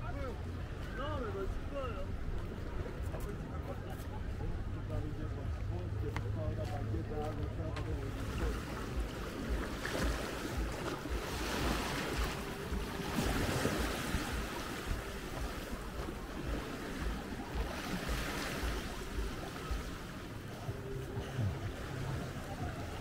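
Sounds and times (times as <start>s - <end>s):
small waves washing onto beach: 0.0s - 23.0s.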